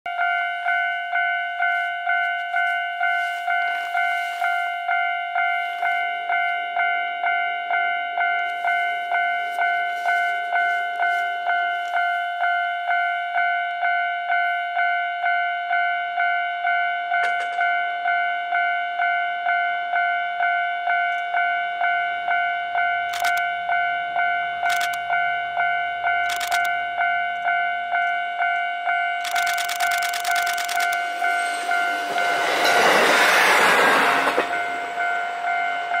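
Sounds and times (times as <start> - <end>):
railcar engine hum: 0.1 - 36.0
train passing with rail noise: 0.1 - 36.0.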